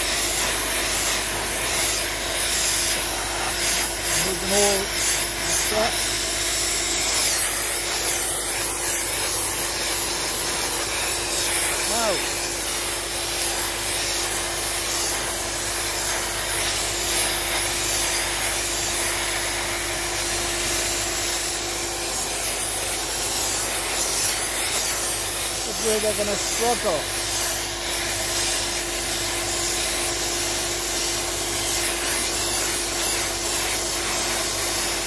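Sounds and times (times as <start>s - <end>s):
steady hum: 0.0s - 30.0s
sandblasting hiss: 0.0s - 35.0s.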